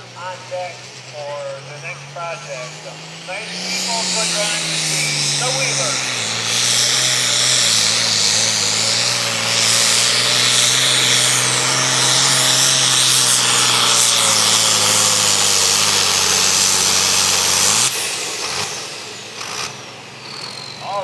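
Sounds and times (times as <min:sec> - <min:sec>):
diesel tractor engine at full throttle: 0:00.0 - 0:21.0.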